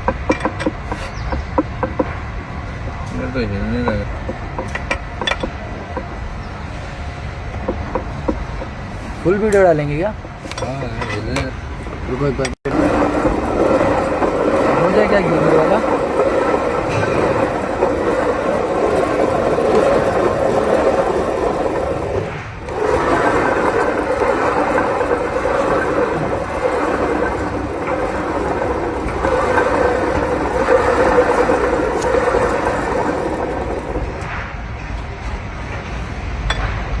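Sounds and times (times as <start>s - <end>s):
machinery rumbling and scraping: 0.0s - 37.0s.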